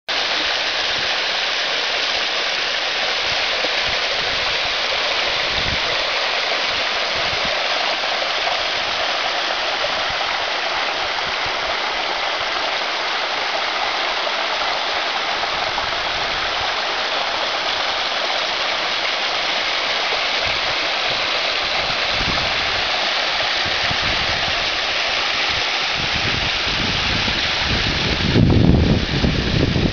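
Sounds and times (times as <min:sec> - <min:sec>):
water rushing down waterfall: 0:00.1 - 0:29.9.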